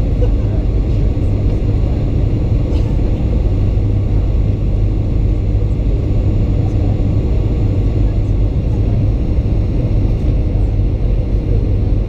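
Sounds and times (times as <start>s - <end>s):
airplane cabin jet engine rumble: 0.0s - 12.0s.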